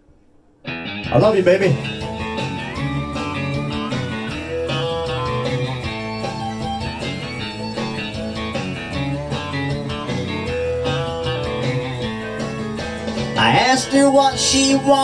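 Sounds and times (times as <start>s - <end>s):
country guitar over steady beat: 0.7s - 15.0s.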